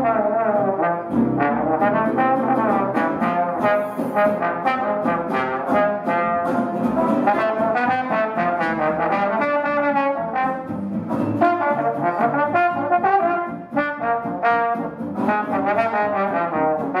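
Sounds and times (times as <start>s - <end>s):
traditional jazz band playing: 0.0s - 17.0s
trombone lead line: 0.0s - 17.0s.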